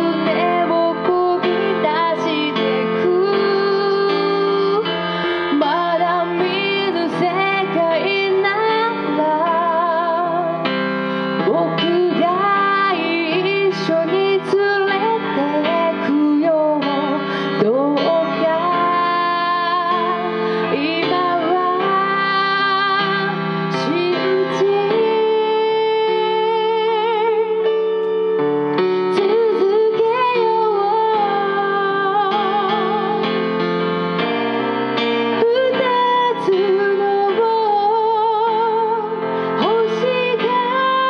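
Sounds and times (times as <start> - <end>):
woman singing into microphone: 0.0 - 28.0, 28.8 - 33.6, 35.0 - 41.0
electronic keyboard: 0.0 - 41.0.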